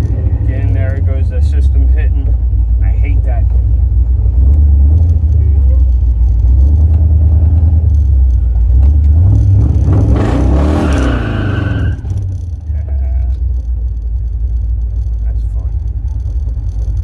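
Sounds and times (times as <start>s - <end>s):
car engine rumbling through exhaust: 0.0s - 17.0s.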